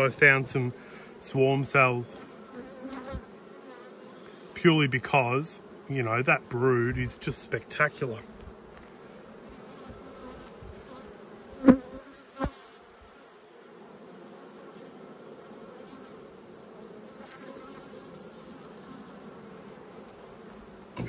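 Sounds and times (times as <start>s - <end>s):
honeybees humming: 0.0s - 21.0s.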